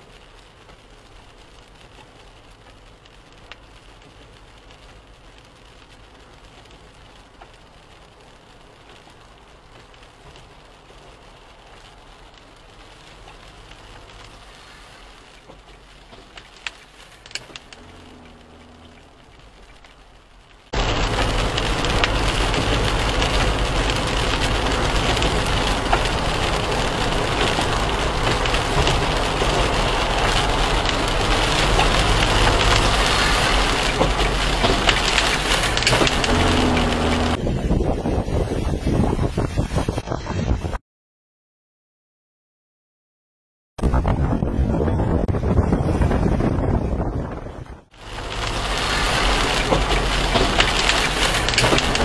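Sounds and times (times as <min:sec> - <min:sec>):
rain and wet road hiss: 0:00.0 - 0:40.1, 0:47.3 - 0:52.0.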